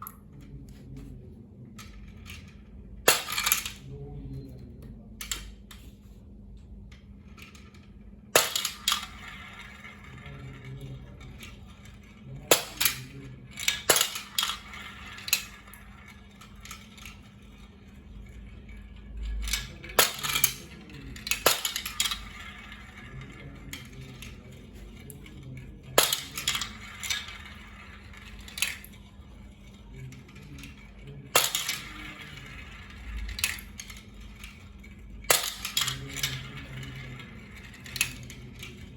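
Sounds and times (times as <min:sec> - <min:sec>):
marbles clacking down wooden run: 0:07.3 - 0:38.9.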